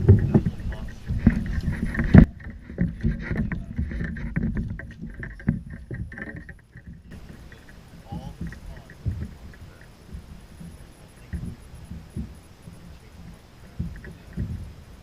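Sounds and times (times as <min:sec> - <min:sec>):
knocks against kayak hull: 0:00.0 - 0:12.8, 0:13.7 - 0:14.8
water splashing: 0:00.0 - 0:15.0.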